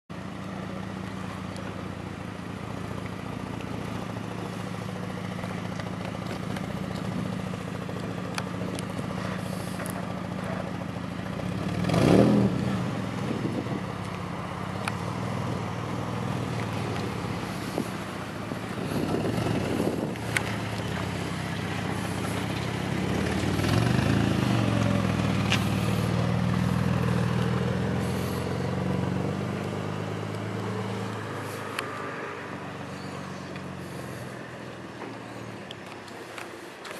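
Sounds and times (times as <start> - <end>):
car engine idling and revving: 0.1 - 36.9.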